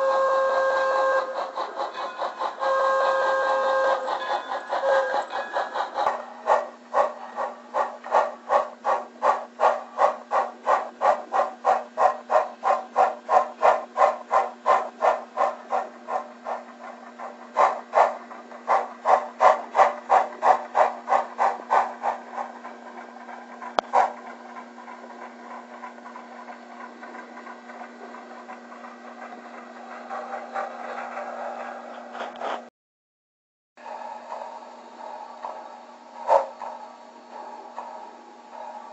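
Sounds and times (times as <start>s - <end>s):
model steam locomotive chuffs: 0.0s - 32.7s, 33.8s - 38.9s
steady low hum: 0.0s - 32.7s, 33.8s - 38.9s.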